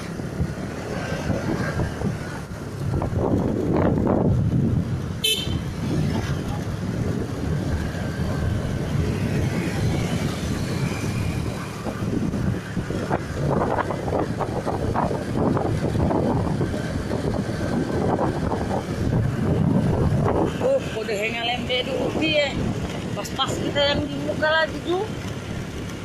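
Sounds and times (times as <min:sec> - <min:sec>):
vehicle running: 0:00.0 - 0:26.0
wind buffeting microphone: 0:00.0 - 0:26.0.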